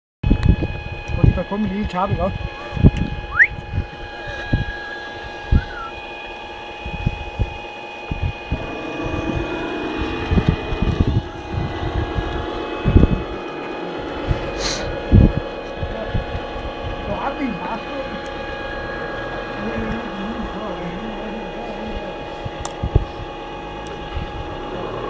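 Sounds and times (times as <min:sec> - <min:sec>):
low thumps: 0:00.2 - 0:25.0
mechanical whine: 0:00.2 - 0:25.0.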